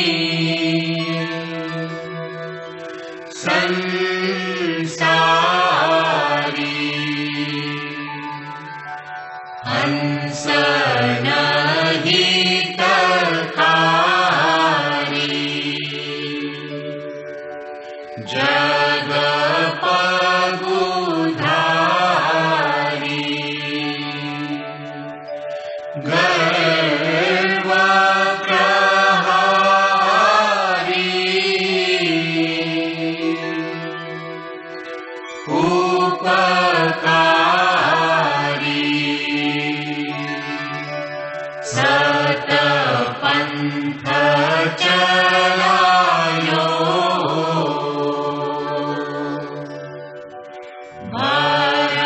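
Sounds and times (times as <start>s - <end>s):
devotional chanting: 0.0s - 52.0s.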